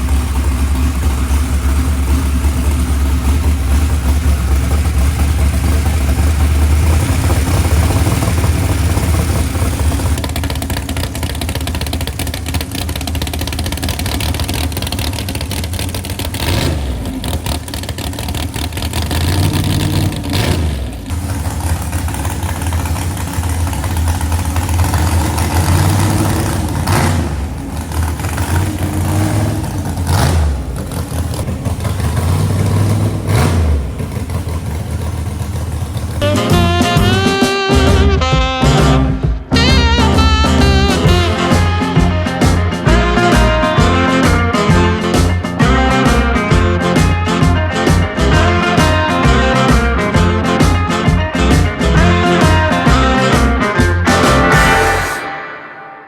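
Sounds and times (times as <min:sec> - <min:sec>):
engine running and revving: 0:00.0 - 0:55.3.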